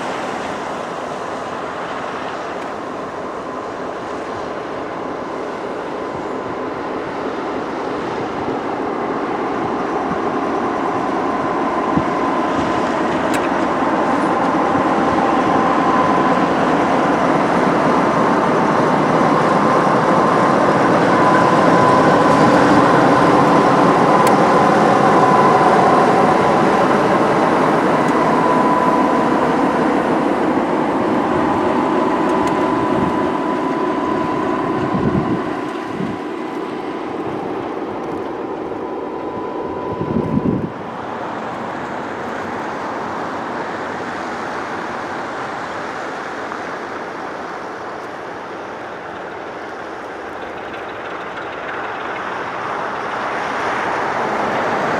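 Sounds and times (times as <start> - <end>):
train wheels rumbling: 0.0 - 54.9
train whine: 0.0 - 54.9.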